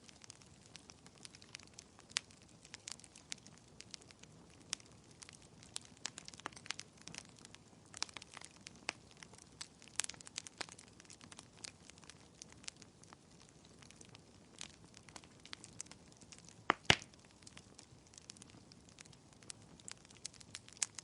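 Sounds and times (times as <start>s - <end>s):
soft steady hiss: 0.0s - 21.0s
wood fire crackling: 0.0s - 21.0s.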